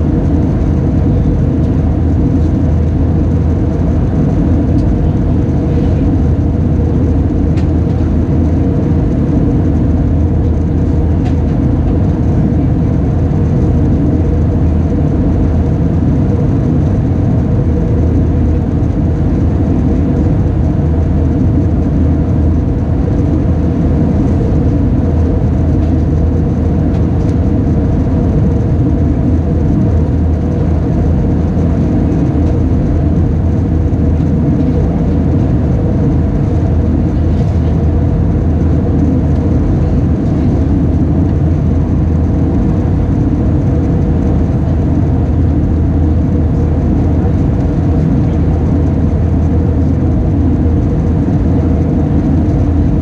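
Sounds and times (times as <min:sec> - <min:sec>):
aircraft engine drone in cabin: 0:00.0 - 0:53.0.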